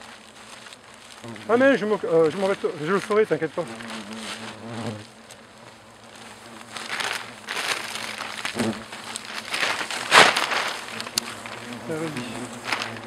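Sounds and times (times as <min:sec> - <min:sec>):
plastic bag rustling and crinkling: 0:00.0 - 0:13.0.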